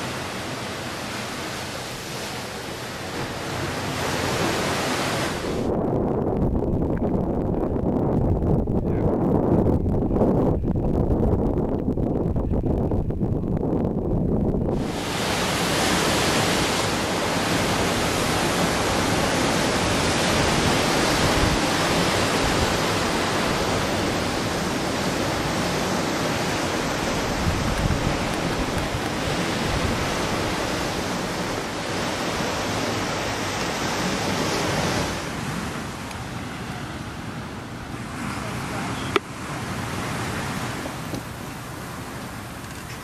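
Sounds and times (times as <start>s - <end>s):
ocean: 0.0s - 43.0s
wind: 0.0s - 43.0s.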